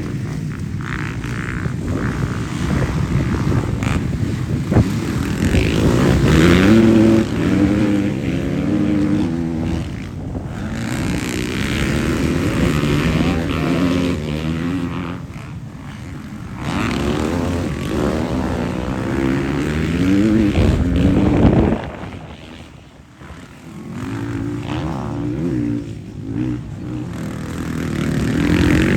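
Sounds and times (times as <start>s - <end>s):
motocross bike engines revving: 0.0s - 28.9s.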